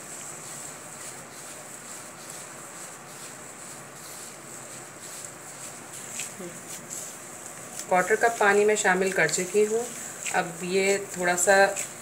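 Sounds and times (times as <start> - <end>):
hand rubbing dough in steel bowl: 0.0 - 12.0
steady hiss: 0.0 - 12.0.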